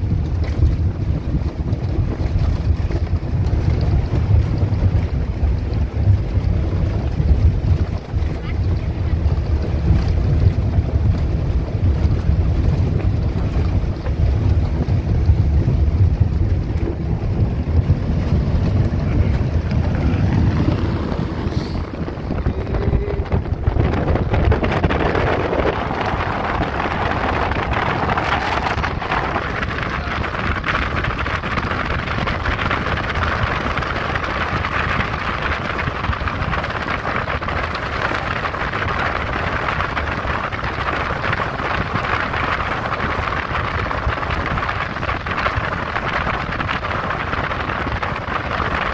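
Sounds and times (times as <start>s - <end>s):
speedboat engine and water rush: 0.0s - 48.9s.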